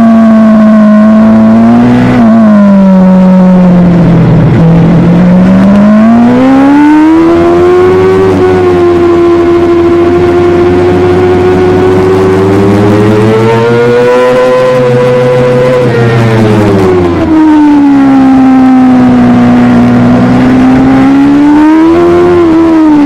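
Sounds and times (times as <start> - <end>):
motorcycle engine running hard: 0.0 - 23.0.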